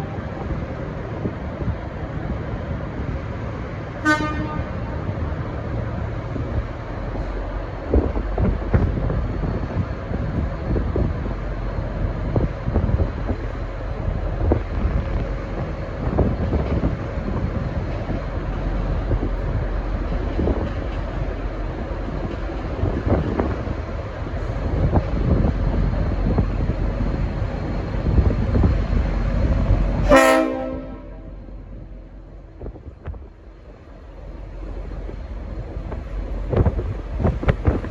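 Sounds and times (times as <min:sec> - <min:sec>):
diesel locomotive engine rumble: 0:00.0 - 0:37.9
wind buffeting microphone: 0:00.0 - 0:37.9.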